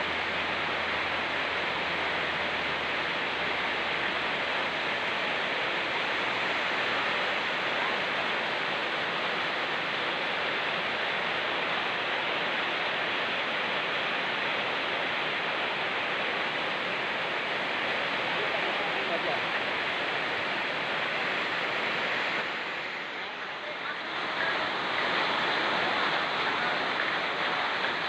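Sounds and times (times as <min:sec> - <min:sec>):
rain falling: 0:00.0 - 0:28.0
river rushing: 0:00.0 - 0:28.0.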